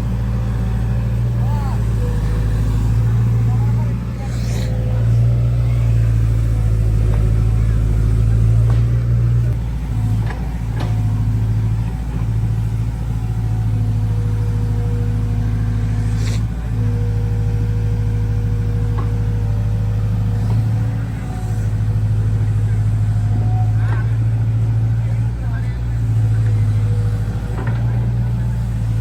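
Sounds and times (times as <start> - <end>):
heavy diesel engine under load: 0.0 - 29.0.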